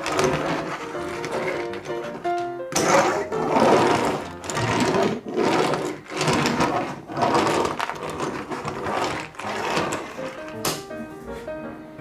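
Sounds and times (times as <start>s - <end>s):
plastic toy bulldozer scraping: 0.0s - 10.6s.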